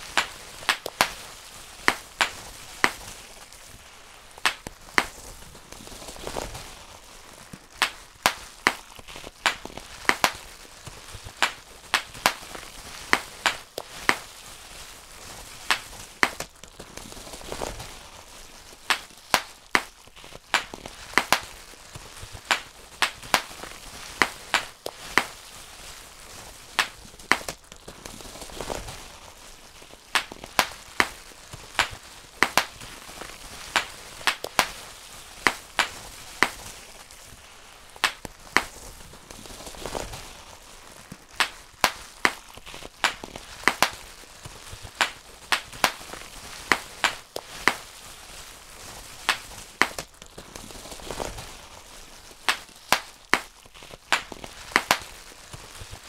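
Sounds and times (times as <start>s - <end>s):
bubble wrap popping: 0.0s - 56.0s
plastic sheet crinkling: 0.0s - 56.0s.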